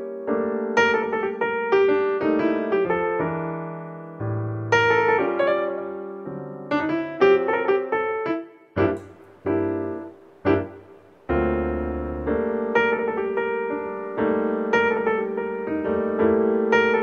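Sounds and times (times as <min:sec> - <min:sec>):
piano notes and chords: 0:00.0 - 0:17.0.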